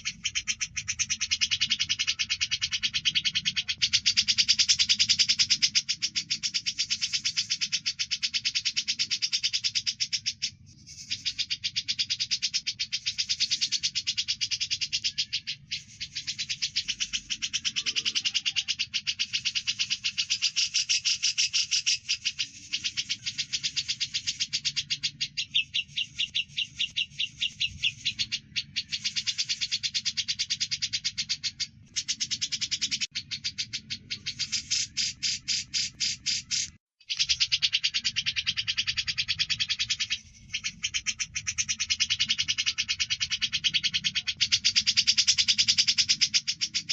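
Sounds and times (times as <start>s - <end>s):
birds chirping rapidly: 0.0s - 46.9s.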